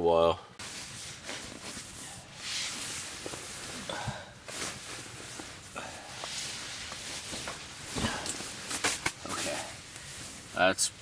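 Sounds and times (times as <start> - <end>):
sleeping bag rustling: 0.6 - 10.6.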